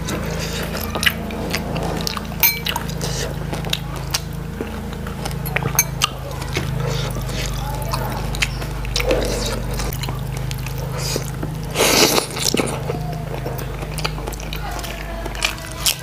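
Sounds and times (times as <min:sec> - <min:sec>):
steady low hum: 0:00.0 - 0:16.0
wet chewing: 0:00.0 - 0:16.0.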